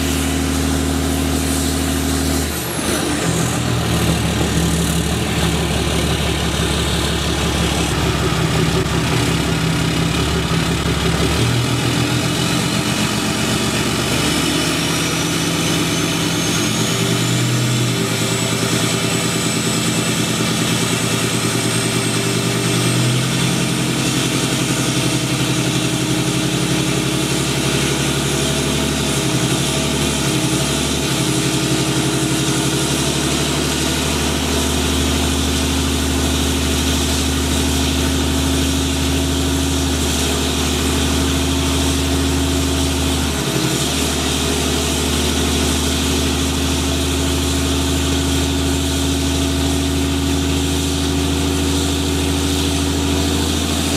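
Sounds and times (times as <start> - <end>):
diesel engine revving: 0.0 - 53.9
tire spinning on pavement: 0.0 - 53.9.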